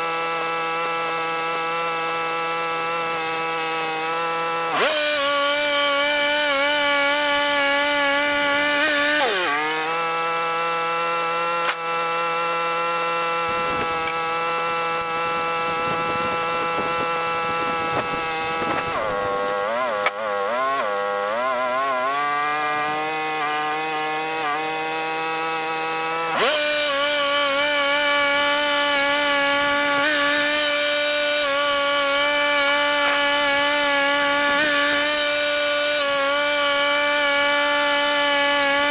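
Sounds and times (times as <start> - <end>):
sawmill engine sawing log: 0.0 - 38.9.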